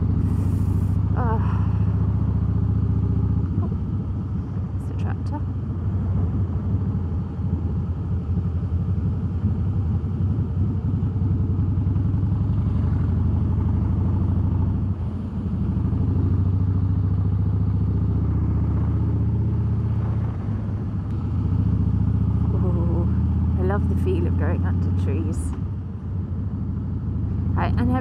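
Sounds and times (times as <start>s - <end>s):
motorcycle engine riding slowly: 0.0s - 28.0s.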